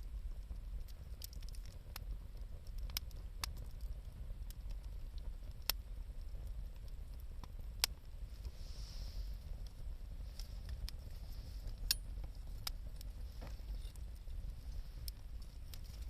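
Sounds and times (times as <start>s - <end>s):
bonfire crackling and popping: 0.0s - 16.0s
fire low rumble: 0.0s - 16.0s.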